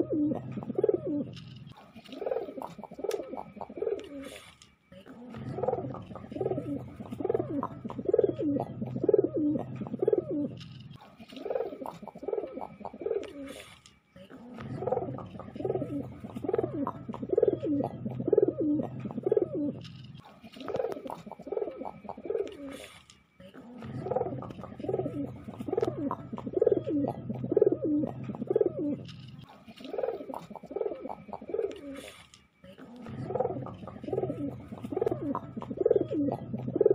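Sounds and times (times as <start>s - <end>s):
pigeon cooing: 0.0s - 36.9s.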